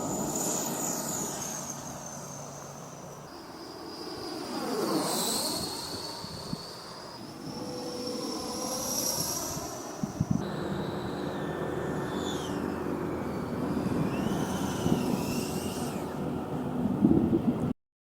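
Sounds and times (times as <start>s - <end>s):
model jet fan whining: 0.0s - 17.7s.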